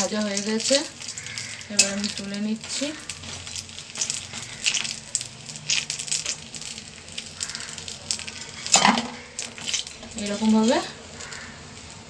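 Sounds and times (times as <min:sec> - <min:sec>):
frying in hot oil: 0:00.0 - 0:12.0.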